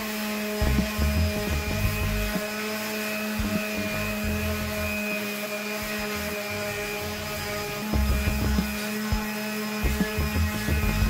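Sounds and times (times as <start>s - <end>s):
electric sander running: 0.0s - 11.0s
sanding pad rubbing plywood: 0.0s - 11.0s.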